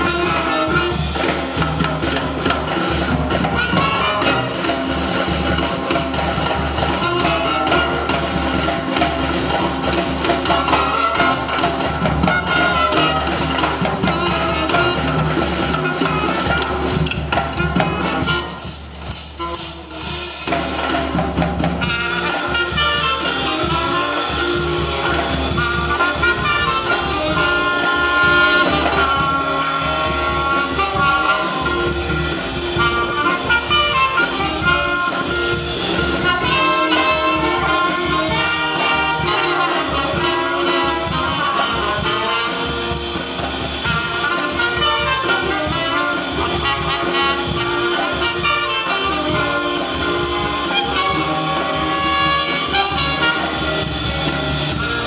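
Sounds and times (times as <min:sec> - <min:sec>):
saxophones: 0:00.0 - 0:18.8, 0:21.8 - 0:55.0
cymbals: 0:00.0 - 0:55.0
jazz band playing: 0:00.0 - 0:55.0
trumpet: 0:00.0 - 0:55.0.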